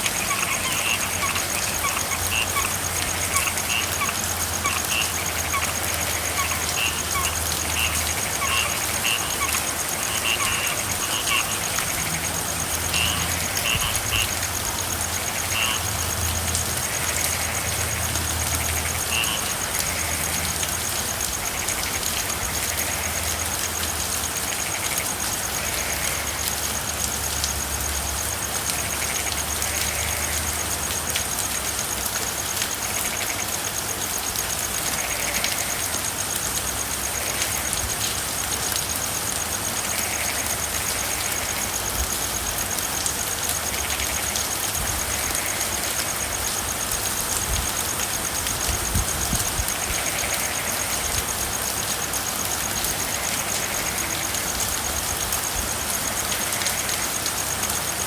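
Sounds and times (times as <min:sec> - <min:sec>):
faint frog calls: 0:00.0 - 0:58.0
steady rain falling: 0:00.0 - 0:58.0.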